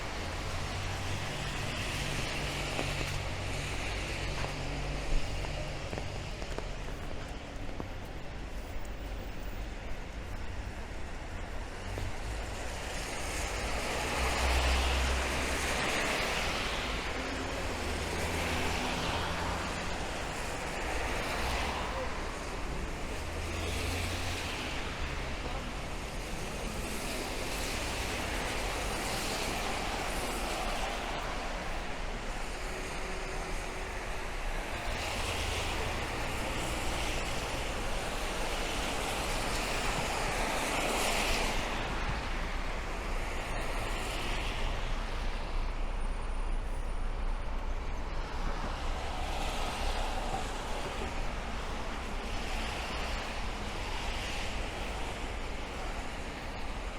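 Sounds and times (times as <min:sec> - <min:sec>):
tyres hissing on wet road: 0:00.0 - 0:56.9.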